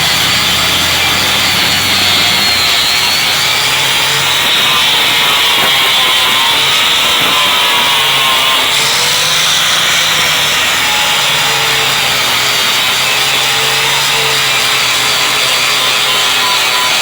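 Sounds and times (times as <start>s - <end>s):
grinder disc rasping: 0.0s - 17.0s
grinder motor whine: 0.0s - 17.0s.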